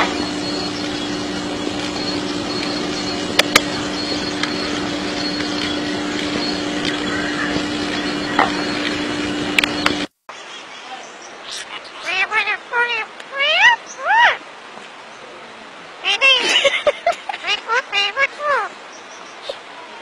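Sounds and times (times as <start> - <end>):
steady hum and hiss: 0.0 - 20.0.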